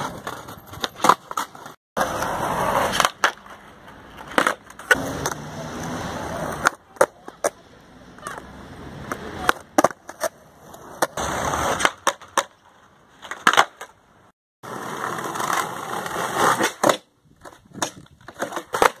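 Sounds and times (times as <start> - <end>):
skateboard clacks: 0.0 - 5.4, 6.2 - 14.0, 14.7 - 19.0
skateboard scraping: 0.0 - 19.0
skateboards rolling on concrete: 0.0 - 19.0.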